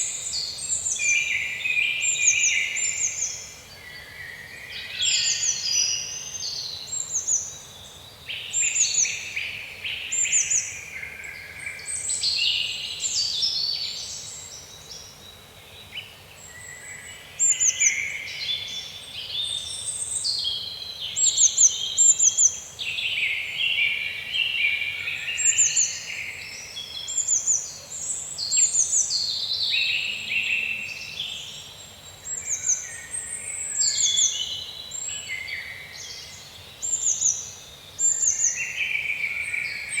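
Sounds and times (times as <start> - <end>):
woodland birds singing: 0.0 - 40.0.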